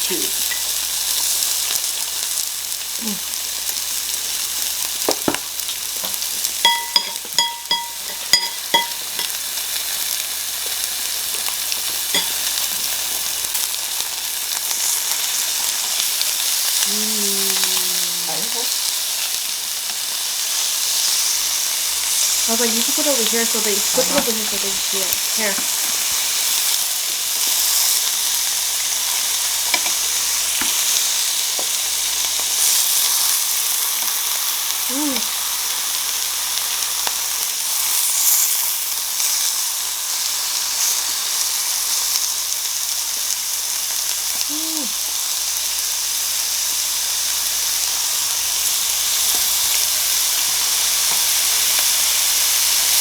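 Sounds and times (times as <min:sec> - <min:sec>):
meat sizzling on a grill: 0:00.0 - 0:53.0.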